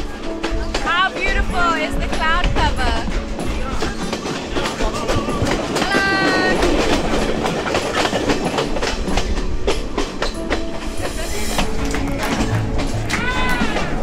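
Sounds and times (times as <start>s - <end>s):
train wheels clacking on rails: 0.0s - 14.0s.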